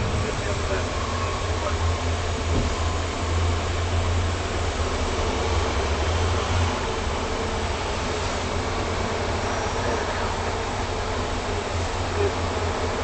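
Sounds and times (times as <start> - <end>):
low rumble and hiss in car: 0.0 - 13.0.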